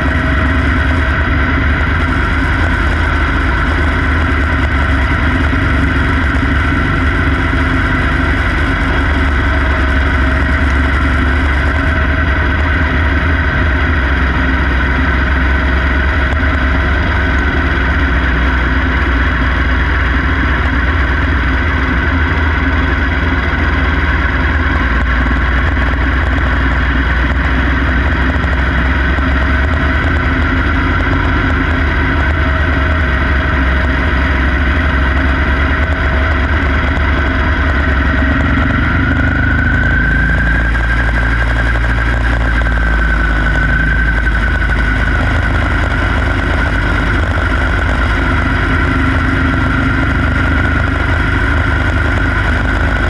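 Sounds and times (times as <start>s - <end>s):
small race car engine running: 0.0s - 53.0s.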